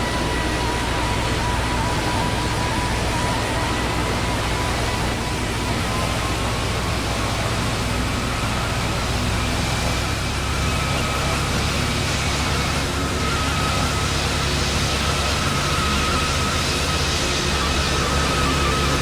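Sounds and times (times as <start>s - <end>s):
faint high whining tones: 0.0s - 19.0s
wind and rain on microphone: 0.0s - 19.0s.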